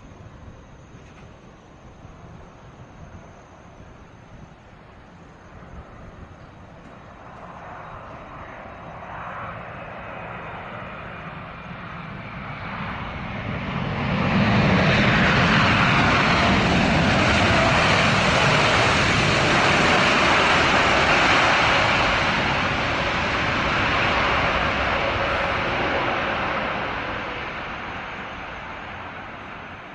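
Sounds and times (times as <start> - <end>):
jet engines rushing: 3.6 - 29.9.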